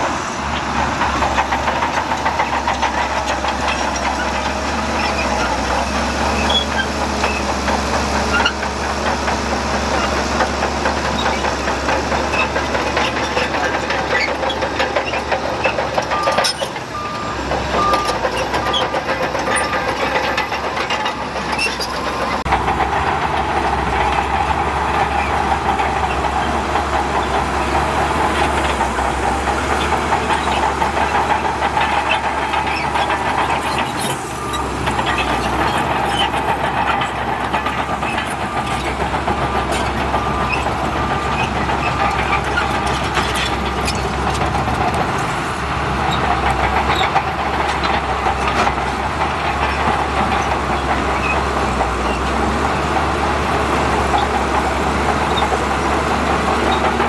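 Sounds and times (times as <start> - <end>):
bulldozer diesel engine: 0.0 - 57.0
steel tracks clanking: 0.0 - 57.0.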